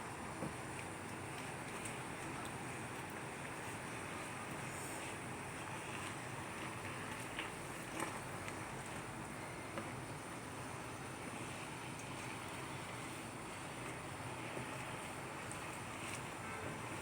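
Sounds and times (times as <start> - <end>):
pot of water boiling: 0.0 - 17.0.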